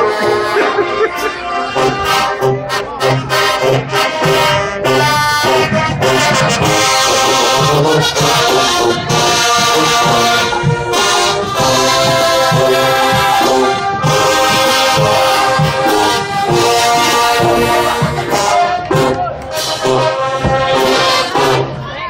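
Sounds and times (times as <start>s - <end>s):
marching band brass playing: 0.0s - 21.9s.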